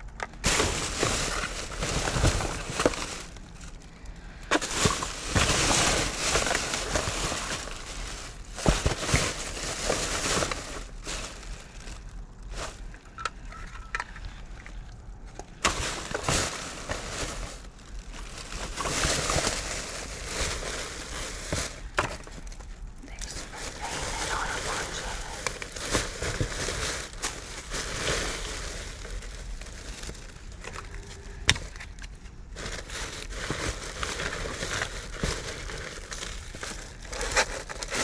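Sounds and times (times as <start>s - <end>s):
plastic bags rustling: 0.0s - 38.0s.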